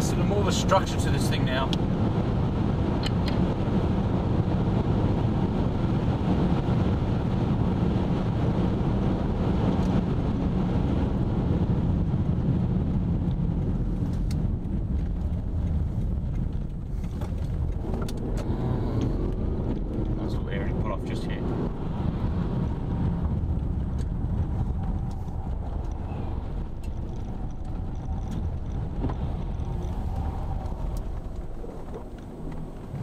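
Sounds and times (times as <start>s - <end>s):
car cabin road rumble: 0.0s - 33.0s.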